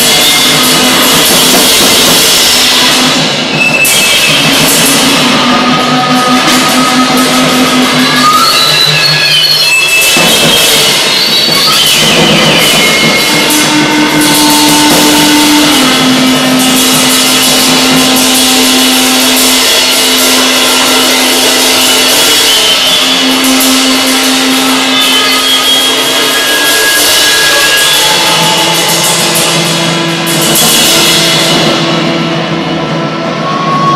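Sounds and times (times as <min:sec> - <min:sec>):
low drone: 0:00.0 - 0:09.5, 0:12.8 - 0:33.9
drum kit played hard: 0:00.0 - 0:33.9
loud amplified noise wash: 0:00.0 - 0:33.9.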